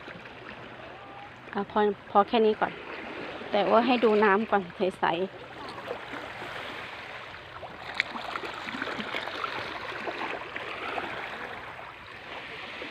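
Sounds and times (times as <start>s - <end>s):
sea water lapping: 0.0s - 12.9s.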